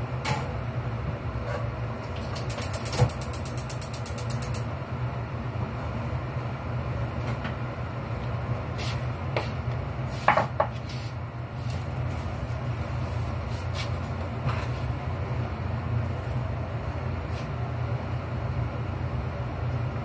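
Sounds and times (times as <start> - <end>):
kitchen extractor fan hum: 0.0 - 20.0.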